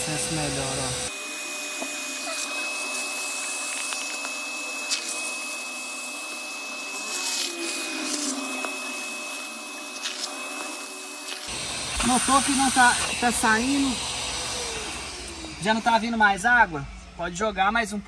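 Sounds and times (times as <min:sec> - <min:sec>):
vacuum nozzle sucking water: 0:00.0 - 0:16.0
vacuum cleaner motor whine: 0:00.0 - 0:18.0.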